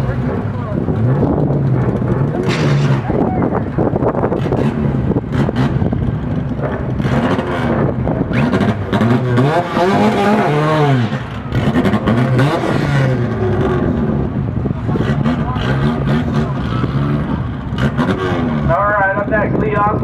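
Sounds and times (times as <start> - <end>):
car engines idling and revving: 0.0 - 20.0.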